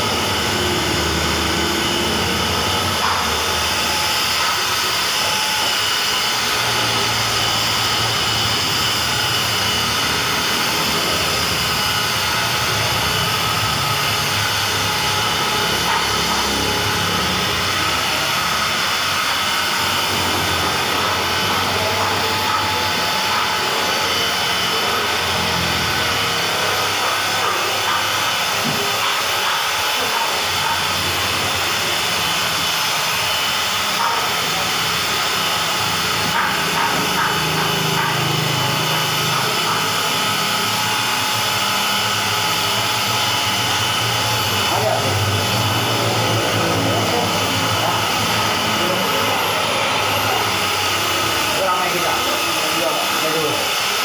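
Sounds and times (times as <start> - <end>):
buffing pad rushing noise: 0.0 - 54.0
electric polisher motor whine: 0.0 - 54.0.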